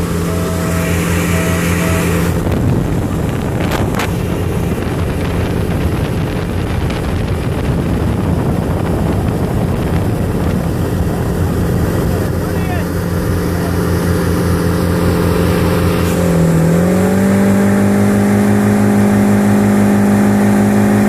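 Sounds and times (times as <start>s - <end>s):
wind buffeting microphone: 0.0s - 20.0s
boat engine running: 0.0s - 21.0s
water rushing past hull: 0.0s - 21.0s.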